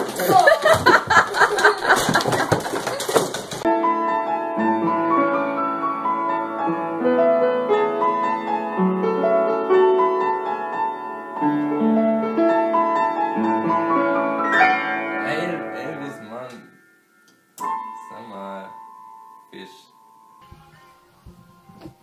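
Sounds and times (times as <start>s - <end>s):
upright piano melody: 0.0s - 22.0s.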